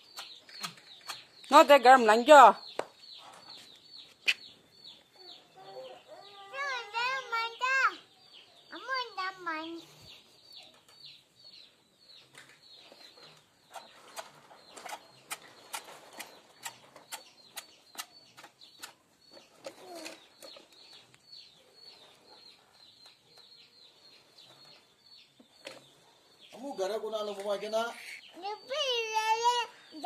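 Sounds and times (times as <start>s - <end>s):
high falling bird chirps: 2.6s - 30.0s.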